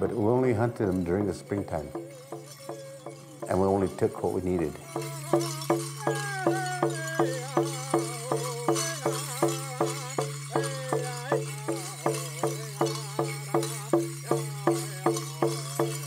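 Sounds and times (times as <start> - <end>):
drum beating steadily: 0.0 - 16.0
voices singing: 0.0 - 16.0.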